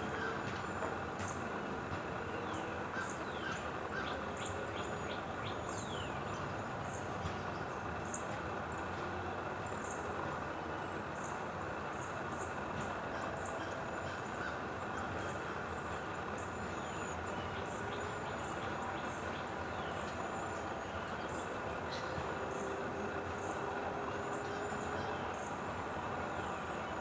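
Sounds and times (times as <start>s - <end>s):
steady outdoor noise: 0.0s - 27.0s.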